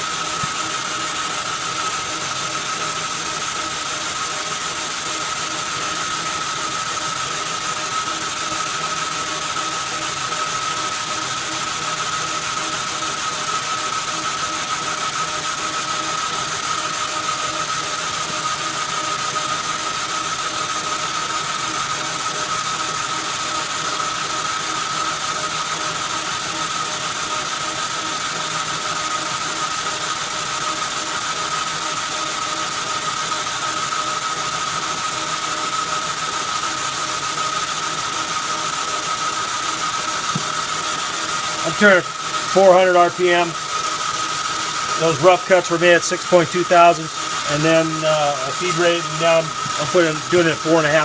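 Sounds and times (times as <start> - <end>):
boring bar cutting metal: 0.0 - 51.0
metal lathe whirring with whine: 0.0 - 51.0.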